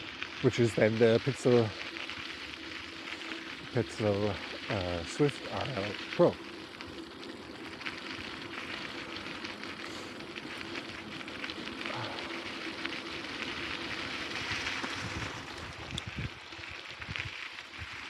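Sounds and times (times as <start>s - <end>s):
bicycle tyres crunching on gravel: 0.0s - 18.0s.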